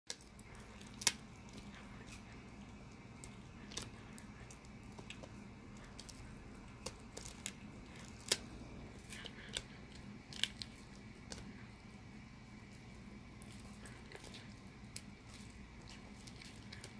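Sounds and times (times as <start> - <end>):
dog gnawing on a chew: 0.1 - 16.9.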